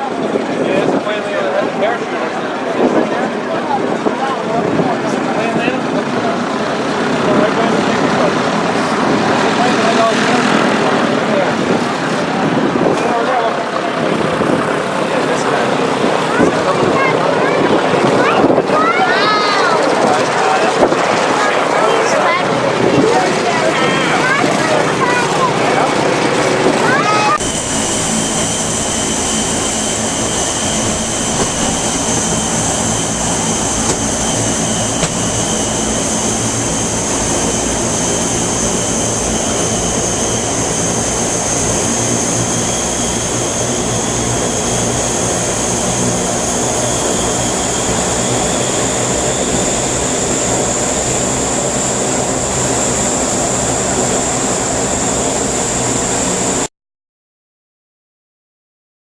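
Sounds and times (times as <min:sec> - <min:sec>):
aircraft engines with turbine whine: 0:00.0 - 0:56.7.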